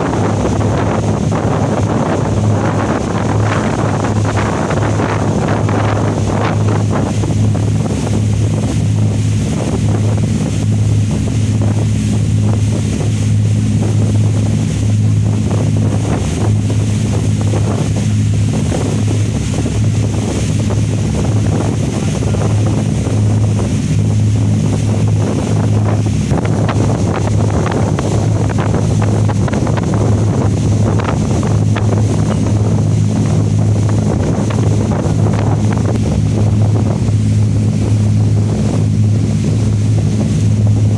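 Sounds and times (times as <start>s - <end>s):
boat engine droning: 0.0s - 40.9s
water rushing past: 0.0s - 40.9s
wind buffeting microphone: 0.0s - 40.9s.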